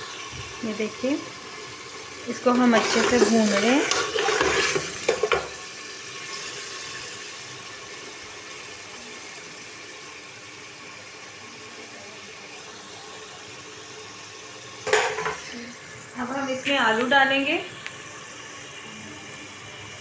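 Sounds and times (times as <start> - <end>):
masala sizzling in hot oil: 0.0 - 20.0.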